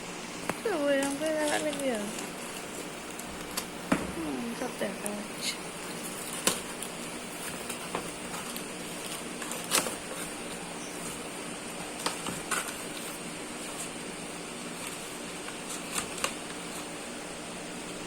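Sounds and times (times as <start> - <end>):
faint hum: 0.0 - 18.0.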